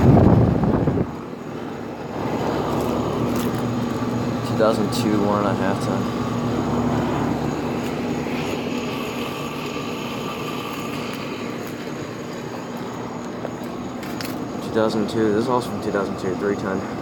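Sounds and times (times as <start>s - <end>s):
air conditioner fan whoosh: 0.0s - 17.0s
compressor low hum: 0.0s - 17.0s.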